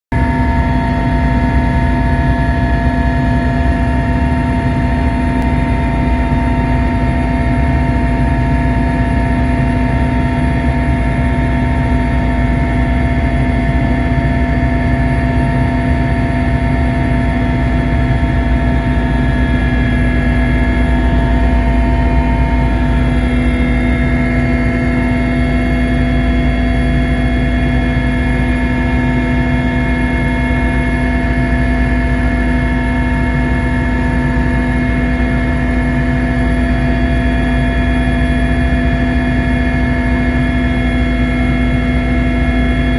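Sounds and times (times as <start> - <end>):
aircraft engine drone: 0.1 - 42.9
whining engine tones: 0.2 - 42.9.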